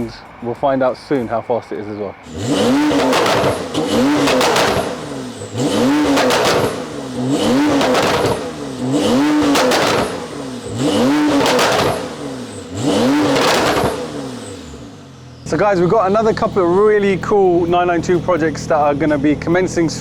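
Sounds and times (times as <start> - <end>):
car engine revving: 0.0 - 20.0
exhaust crackles: 0.0 - 20.0.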